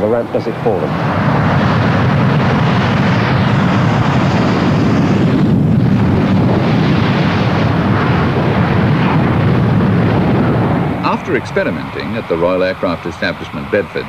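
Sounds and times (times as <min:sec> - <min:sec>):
loud jet engine noise: 0:00.0 - 0:14.0.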